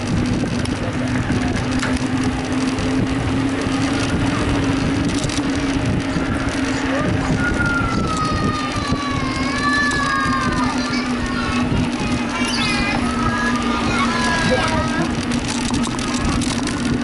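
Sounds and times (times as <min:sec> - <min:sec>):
bike road noise: 0:00.0 - 0:17.0.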